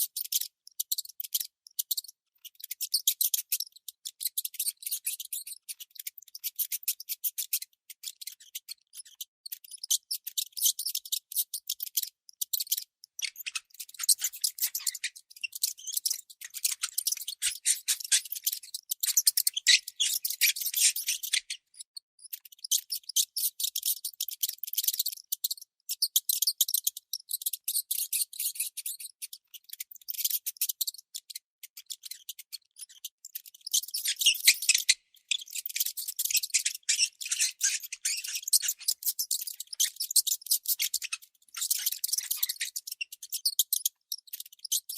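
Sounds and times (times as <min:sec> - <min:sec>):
baby mouse squeaking: 0:00.0 - 0:44.9.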